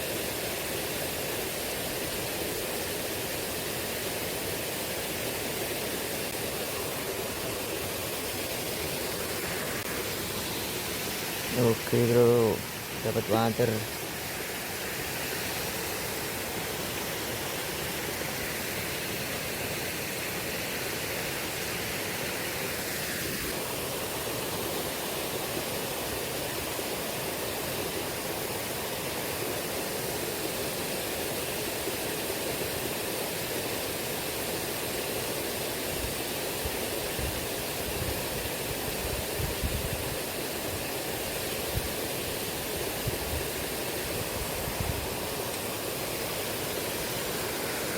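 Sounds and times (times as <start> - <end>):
river water rushing over stones: 0.0 - 47.9.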